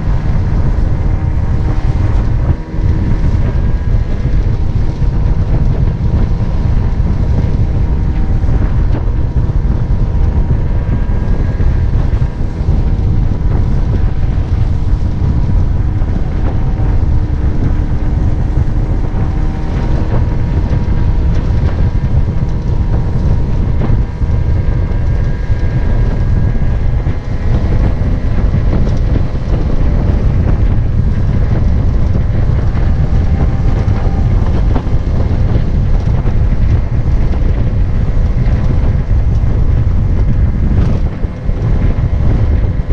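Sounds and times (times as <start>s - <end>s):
outboard motor running: 0.0s - 42.9s
wind buffeting microphone: 0.0s - 42.9s.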